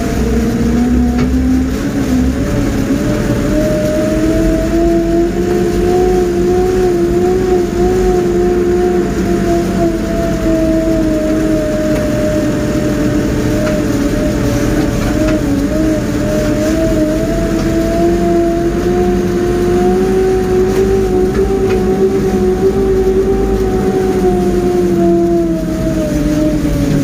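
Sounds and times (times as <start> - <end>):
diesel engine running: 0.0 - 27.0
steady whine: 0.0 - 27.0.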